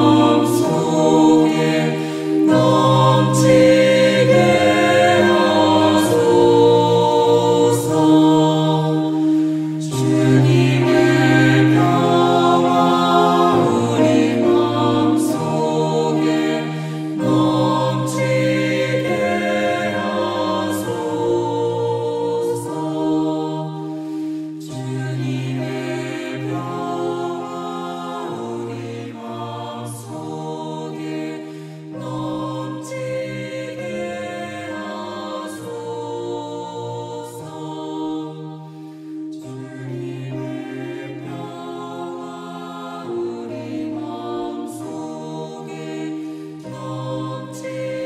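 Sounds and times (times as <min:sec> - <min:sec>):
choir singing sustained chords: 0:00.0 - 0:48.0.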